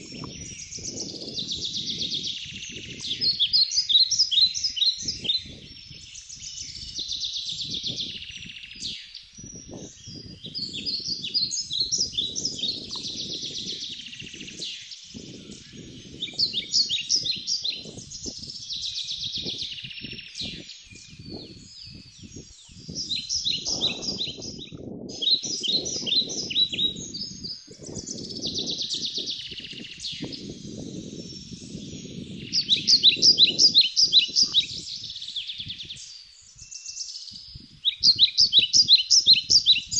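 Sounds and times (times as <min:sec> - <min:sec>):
wild birds singing: 0:00.0 - 0:39.9.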